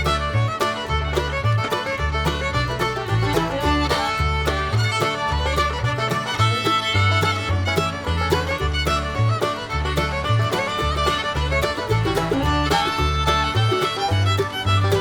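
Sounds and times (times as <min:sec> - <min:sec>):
upbeat fiddle country music: 0:00.0 - 0:15.0.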